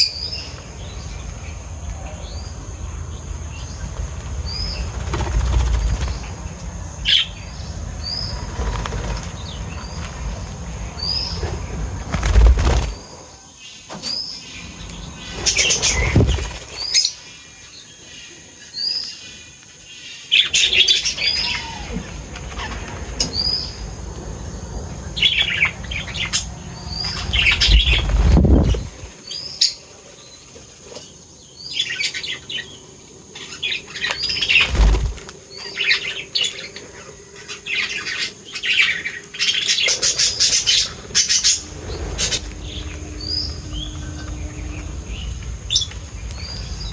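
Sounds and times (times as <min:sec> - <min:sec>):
wing flutter: 0:00.0 - 0:17.5, 0:20.4 - 0:29.4, 0:34.0 - 0:36.7, 0:37.4 - 0:46.9
birds twittering: 0:00.0 - 0:46.9.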